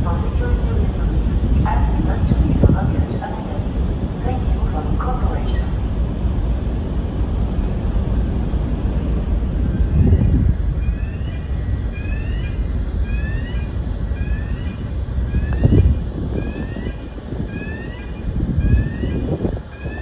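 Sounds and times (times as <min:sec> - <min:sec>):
ferry engine rumble: 0:00.0 - 0:20.0.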